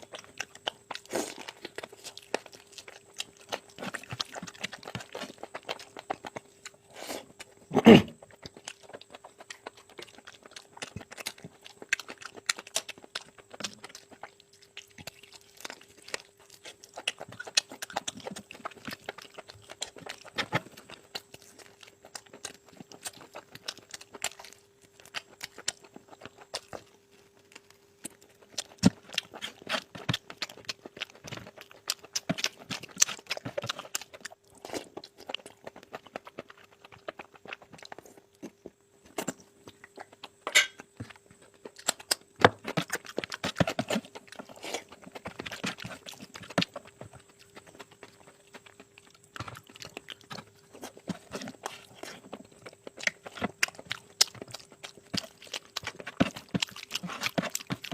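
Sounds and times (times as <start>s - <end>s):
wet chewing and crunching: 0.0s - 57.9s.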